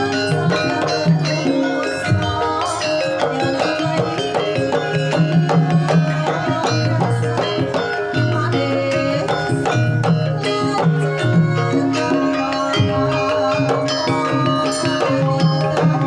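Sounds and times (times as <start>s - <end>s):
metallophones ringing: 0.0s - 16.0s.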